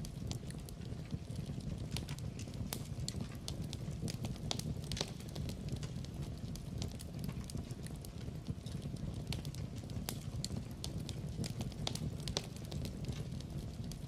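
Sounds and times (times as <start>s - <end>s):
low rumble of burning logs: 0.0s - 14.0s
wood fire crackling: 0.0s - 14.0s.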